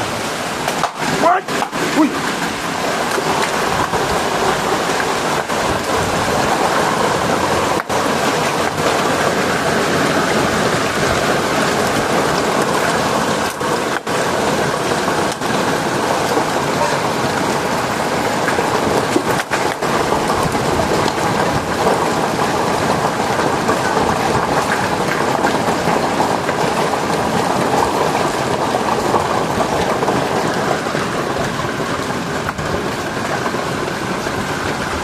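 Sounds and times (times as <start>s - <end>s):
torrential rain pouring: 0.0s - 35.0s.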